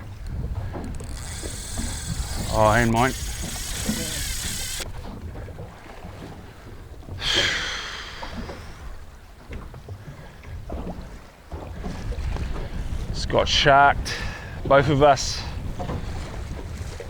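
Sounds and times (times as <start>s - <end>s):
wind buffeting microphone: 0.0s - 7.2s, 8.6s - 17.0s.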